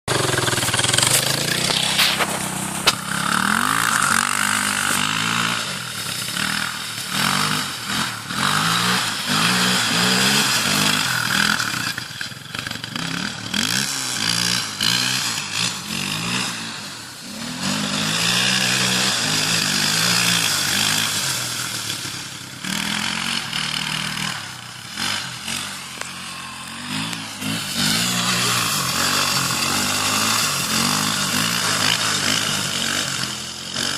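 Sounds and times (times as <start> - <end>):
quad bike engine revving: 0.0 - 33.9.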